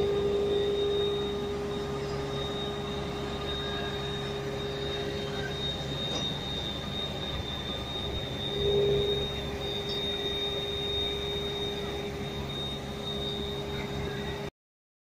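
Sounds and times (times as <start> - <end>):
machinery low hum: 0.0 - 14.5
thin high whine: 0.0 - 14.5.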